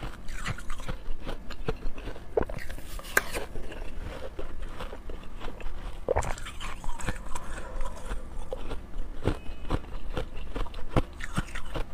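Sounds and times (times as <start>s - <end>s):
chewing frozen ice crunches: 0.0s - 11.9s.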